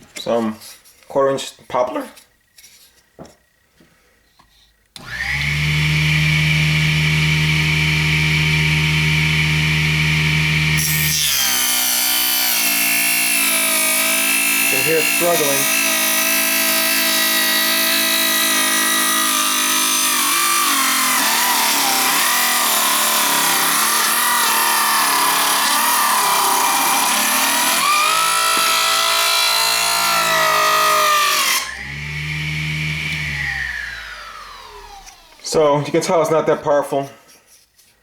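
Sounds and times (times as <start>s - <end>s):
table saw cutting wood: 5.0s - 36.2s.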